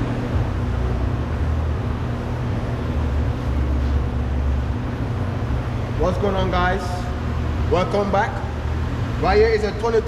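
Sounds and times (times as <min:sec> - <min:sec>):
low mechanical rumble with hum: 0:00.0 - 0:10.0.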